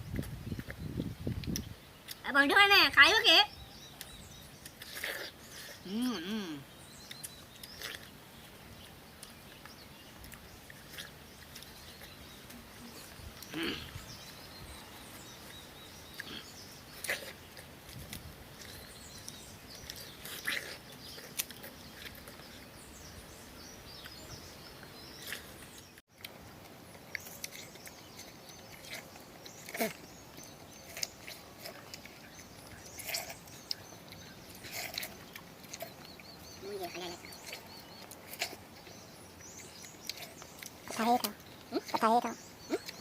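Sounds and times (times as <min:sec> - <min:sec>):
people chewing watermelon: 0:00.0 - 0:43.0.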